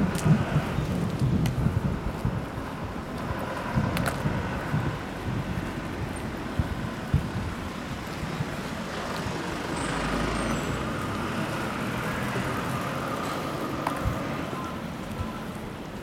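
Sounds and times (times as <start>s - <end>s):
passing road vehicle rumble: 0.0s - 16.0s.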